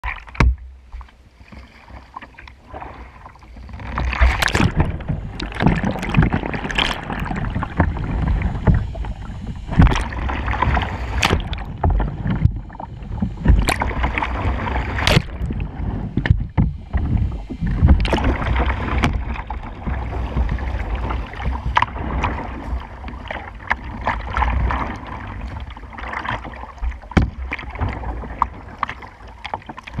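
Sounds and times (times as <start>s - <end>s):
paddle slapping water: 0.0s - 30.0s
water splashing around kayak: 0.0s - 30.0s.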